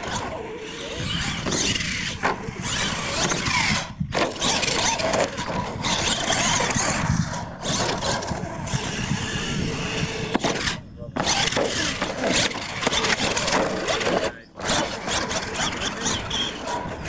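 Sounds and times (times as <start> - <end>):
rc truck motor running: 0.0 - 17.0
tyres on dirt: 0.0 - 17.0.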